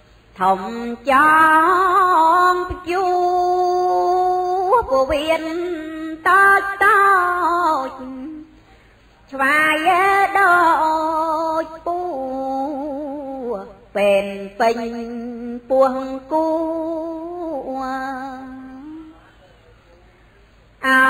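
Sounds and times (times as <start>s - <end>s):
woman chanting: 0.4s - 8.6s, 9.3s - 19.2s, 20.8s - 21.0s.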